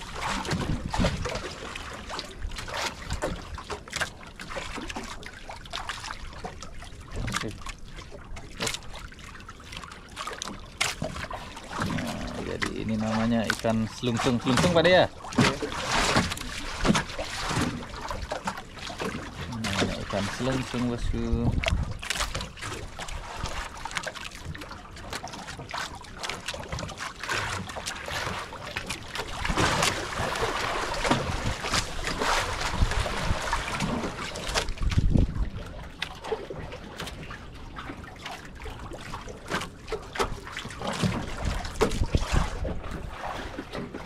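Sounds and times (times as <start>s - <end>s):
water splashing and trickling: 0.0s - 44.0s.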